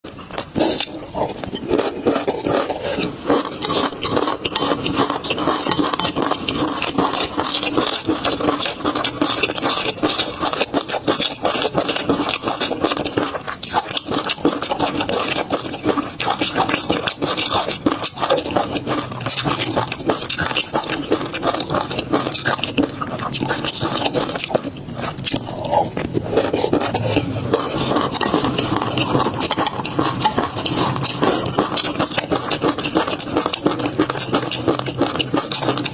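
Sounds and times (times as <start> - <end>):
mouth eating sounds: 0.0 - 35.9.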